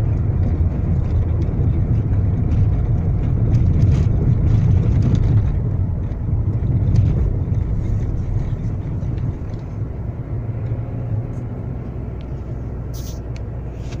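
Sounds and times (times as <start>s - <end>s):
tyres rumbling on rough road: 0.0s - 14.0s.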